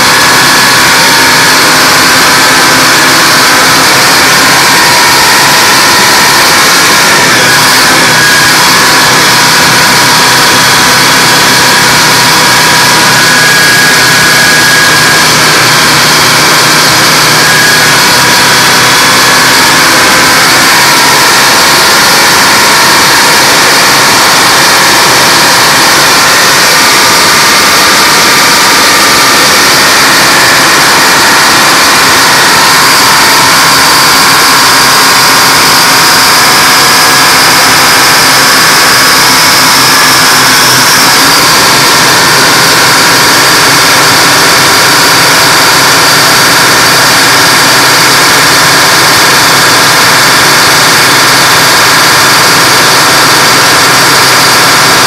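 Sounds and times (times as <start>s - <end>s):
diesel engines running: 0.0s - 55.0s
high whine: 0.0s - 55.0s.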